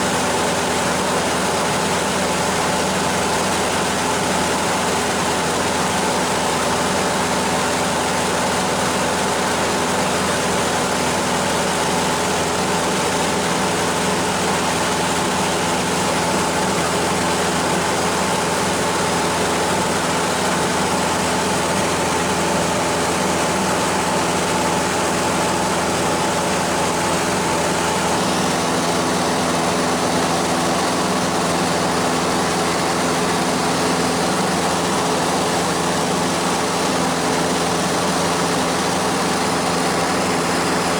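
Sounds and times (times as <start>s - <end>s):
small airplane engine droning: 0.0s - 40.9s.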